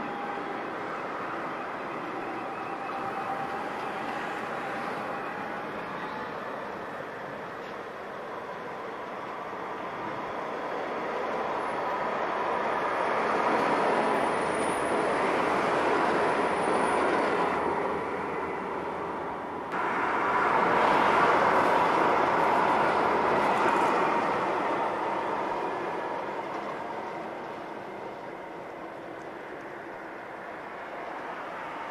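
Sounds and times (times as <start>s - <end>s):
tram running on rails: 0.0s - 31.9s.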